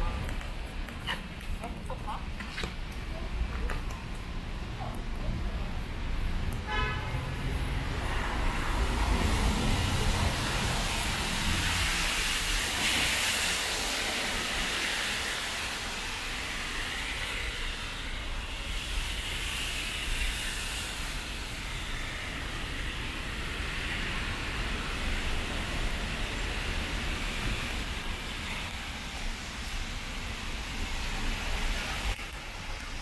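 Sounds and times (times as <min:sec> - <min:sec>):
tyres hissing on wet road: 0:00.0 - 0:33.0.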